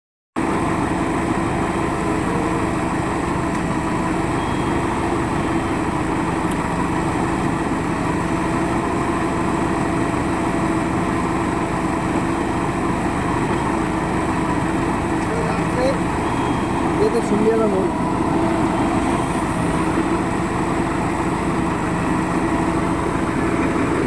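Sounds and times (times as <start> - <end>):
diesel engine running steadily: 0.4 - 24.0.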